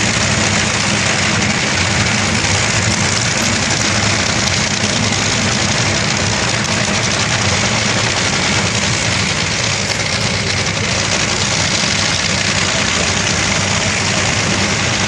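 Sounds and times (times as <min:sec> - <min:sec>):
dragster engine crackling rumble: 0:00.0 - 0:15.0.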